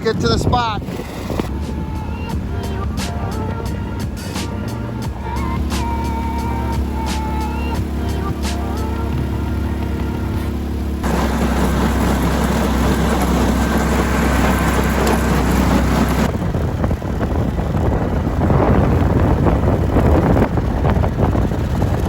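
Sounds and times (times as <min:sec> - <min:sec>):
boat motor running: 0:00.0 - 0:22.0
wind buffeting microphone: 0:00.0 - 0:22.0.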